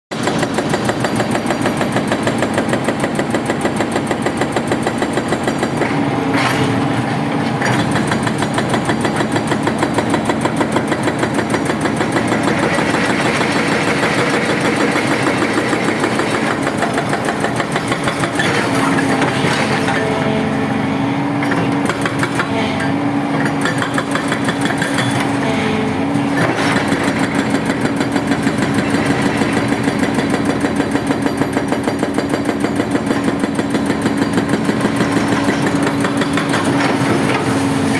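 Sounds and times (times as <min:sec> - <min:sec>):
hydraulic rock breaker hammering: 0:00.1 - 0:20.8, 0:21.4 - 0:37.9
excavator diesel engine under load: 0:00.4 - 0:37.9.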